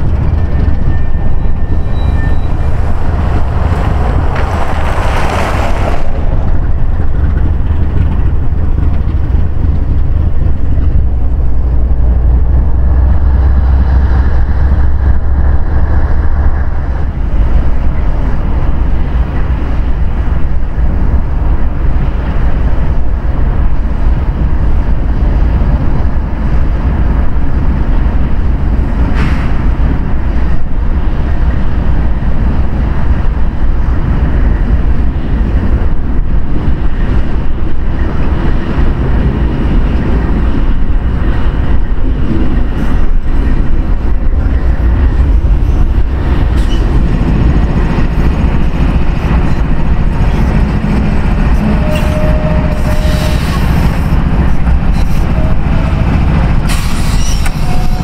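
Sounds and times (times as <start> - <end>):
diesel locomotive rumbling: 0.0 - 58.0.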